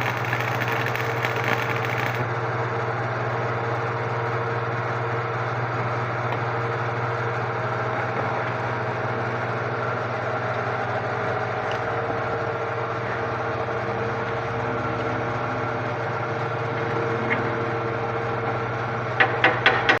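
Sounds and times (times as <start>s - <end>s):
arc welding hum and crackle: 0.0s - 19.9s.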